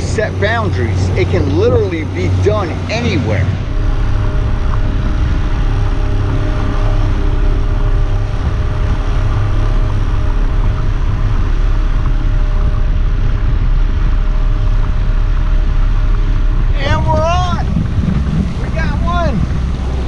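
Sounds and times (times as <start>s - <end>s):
boat engine droning: 0.0s - 20.0s
water noise: 0.0s - 20.0s
wind: 0.0s - 20.0s.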